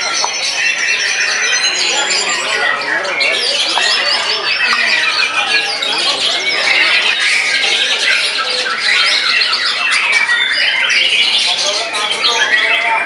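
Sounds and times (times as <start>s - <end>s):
songbird whistling and trilling: 0.0s - 13.0s.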